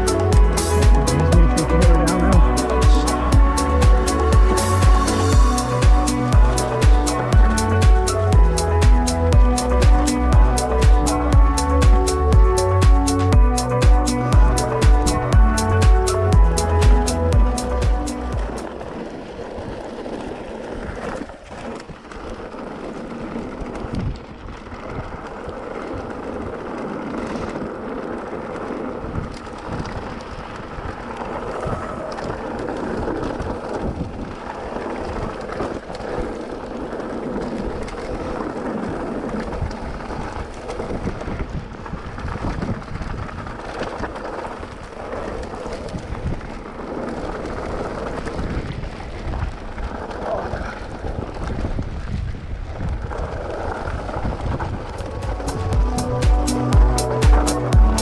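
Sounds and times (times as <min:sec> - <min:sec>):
bike tyres rattling over gravel: 0:00.0 - 0:58.0
wind rumble on microphone: 0:00.0 - 0:58.0.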